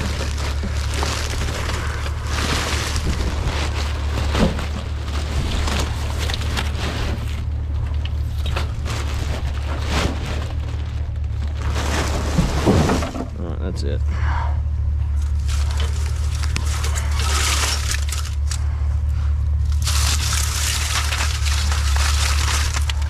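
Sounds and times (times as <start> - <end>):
small knocks of debris: 0.0 - 13.4, 15.2 - 18.6, 19.6 - 23.0
trash bags rustling: 0.0 - 13.8, 15.2 - 18.7, 19.5 - 23.0
steady low rumble: 0.0 - 23.0.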